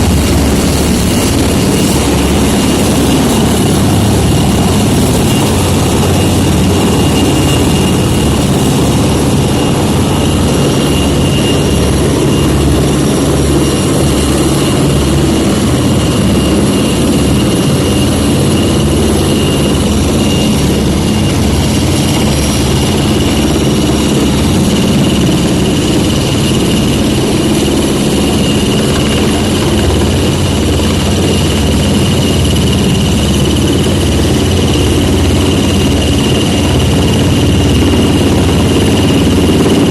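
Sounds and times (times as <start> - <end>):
helicopter rotor beating: 0.0 - 39.9
high turbine whine: 0.0 - 39.9.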